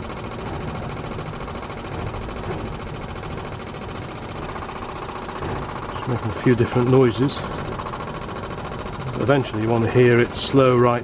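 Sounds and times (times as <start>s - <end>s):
electric fuel pump clicking: 0.0s - 11.0s.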